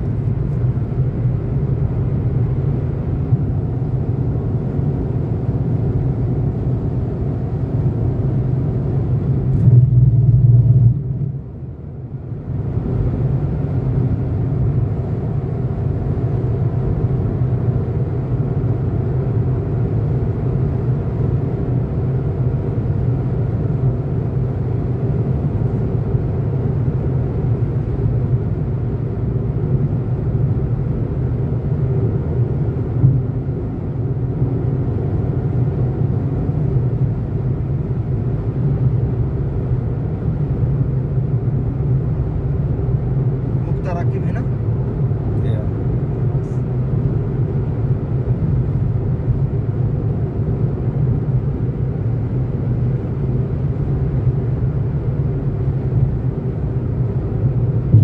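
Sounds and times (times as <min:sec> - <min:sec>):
car cabin hum at highway speed: 0:00.0 - 0:58.0.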